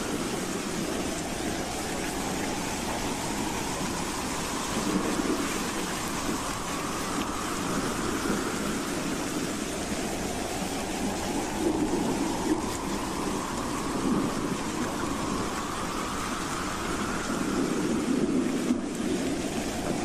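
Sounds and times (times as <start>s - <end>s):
wind howling: 0.0s - 20.0s.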